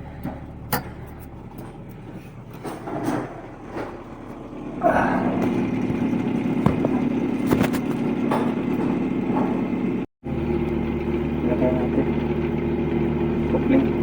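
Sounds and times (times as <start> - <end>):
motor running: 0.0 - 14.0.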